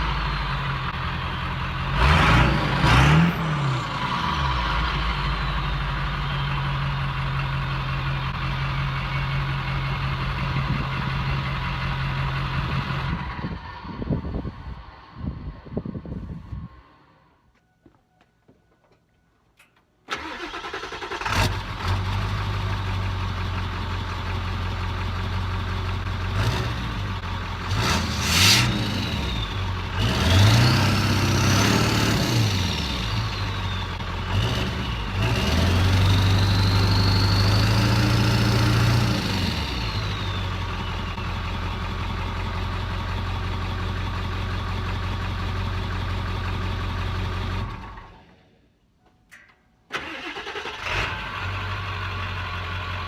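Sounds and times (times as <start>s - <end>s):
diesel truck engine revving: 0.0s - 15.9s, 20.1s - 48.2s, 50.0s - 53.0s.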